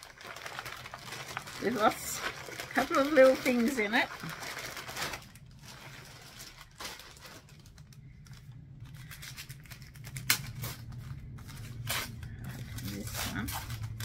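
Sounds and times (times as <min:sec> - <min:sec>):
gift bag rustling and crinkling: 0:00.0 - 0:14.0
steady low hum: 0:00.1 - 0:14.0.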